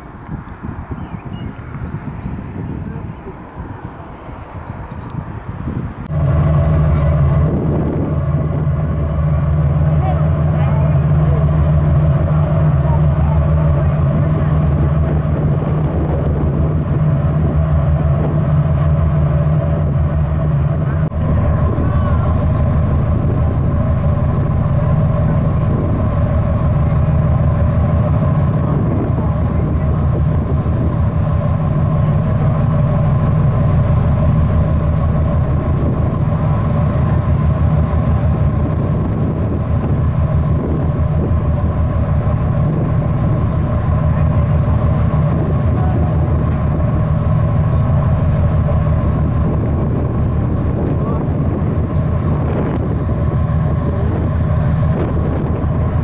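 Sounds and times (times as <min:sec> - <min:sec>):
ferry engines droning: 0:00.0 - 0:56.0.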